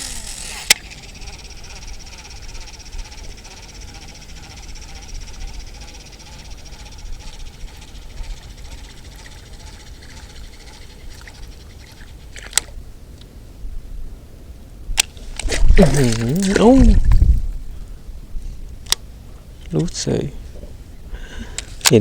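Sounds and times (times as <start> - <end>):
wind buffeting microphone: 0.8 - 21.8.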